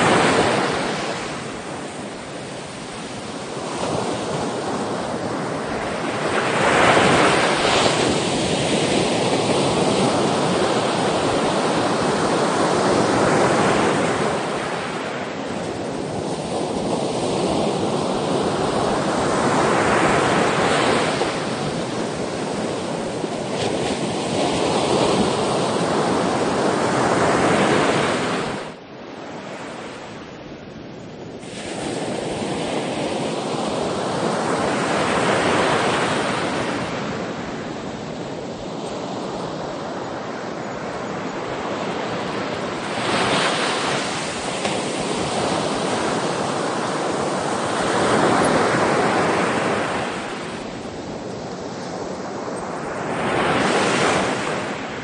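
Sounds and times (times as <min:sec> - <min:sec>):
sea waves washing in: 0:00.0 - 0:30.7, 0:31.3 - 0:55.0.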